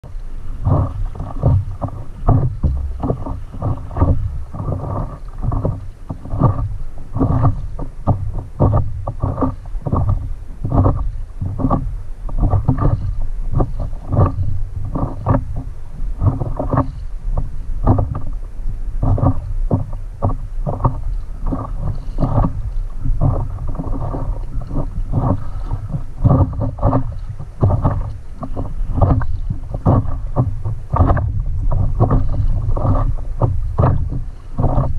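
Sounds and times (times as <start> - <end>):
low rumble: 0.0 - 34.9
water lapping against board: 0.0 - 34.9
wind buffeting microphone: 0.0 - 34.9.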